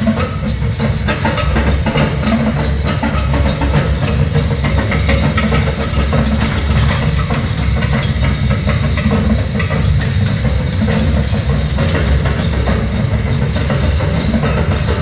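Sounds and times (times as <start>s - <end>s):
train cars rattling and clicking: 0.0s - 15.0s
train engine rumble: 0.0s - 15.0s.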